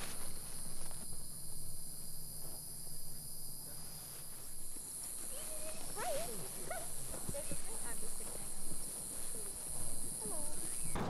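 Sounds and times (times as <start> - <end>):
crickets chirping: 0.0 - 11.0
low background noise: 0.0 - 11.0.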